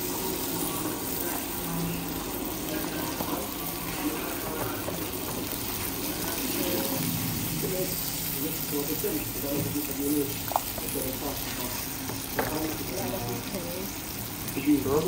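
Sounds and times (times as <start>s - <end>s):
fish frying in oil: 0.0s - 15.0s
pot bubbling: 0.0s - 15.0s.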